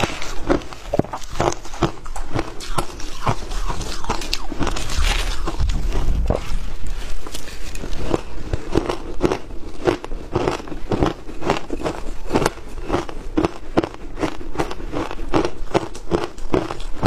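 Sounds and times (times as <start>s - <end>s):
shaved ice crunching in mouth: 0.0s - 17.0s.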